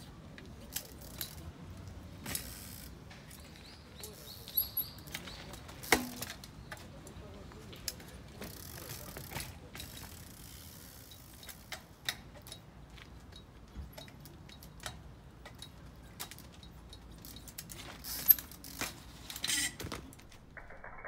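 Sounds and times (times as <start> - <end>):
bicycle chain clicking and rattling: 0.6 - 6.6, 7.8 - 21.0.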